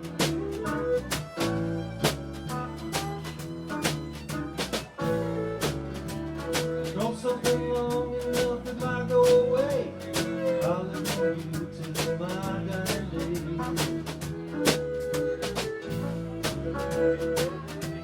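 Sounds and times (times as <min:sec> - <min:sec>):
live country blues band: 0:00.0 - 0:18.0.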